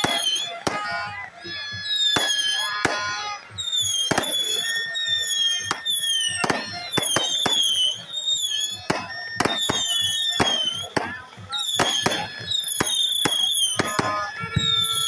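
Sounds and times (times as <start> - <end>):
descending firework whistles: 0.0 - 15.0
fireworks bangs: 0.0 - 15.0.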